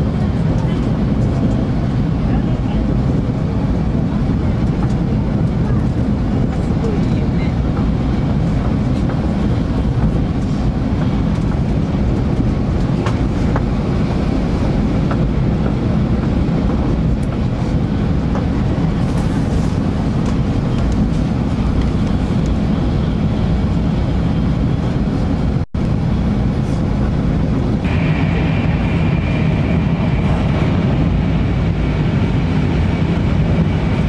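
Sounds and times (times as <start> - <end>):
train cabin rumble: 0.0 - 34.0.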